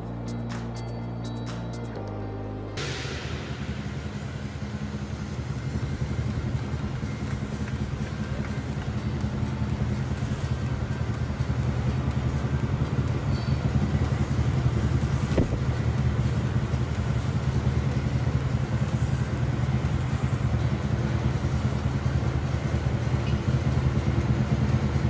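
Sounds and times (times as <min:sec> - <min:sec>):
cymbals clashing: 0:02.8 - 0:25.0
drum roll: 0:02.8 - 0:25.0.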